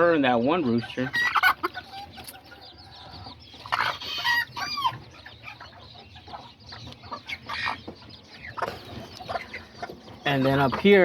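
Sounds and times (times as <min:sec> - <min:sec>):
chicks peeping: 0:00.0 - 0:11.0
hens clucking: 0:00.0 - 0:11.0.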